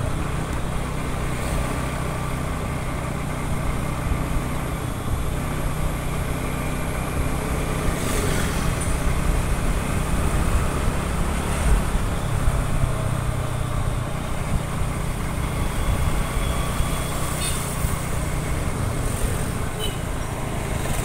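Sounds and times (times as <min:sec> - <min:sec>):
motor scooter engine rumble: 0:00.0 - 0:21.0
road traffic: 0:00.0 - 0:21.0.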